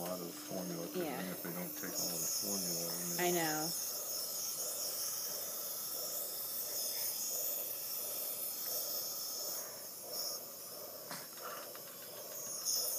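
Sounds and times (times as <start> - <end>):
nebulizer hissing: 0.0 - 12.9.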